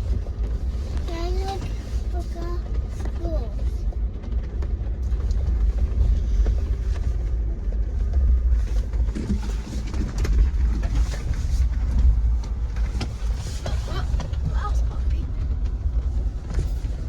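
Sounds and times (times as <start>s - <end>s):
engine and tyres rumbling: 0.0s - 17.0s
knocks and rattles over bumps: 0.0s - 17.0s.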